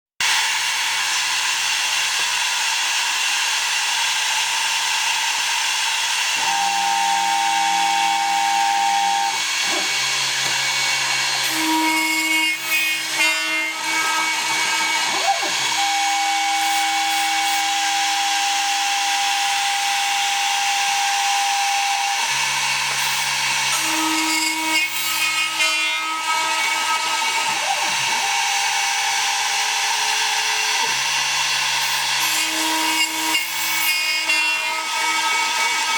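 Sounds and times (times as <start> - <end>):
router spindle cutting aluminium: 0.2 - 35.9.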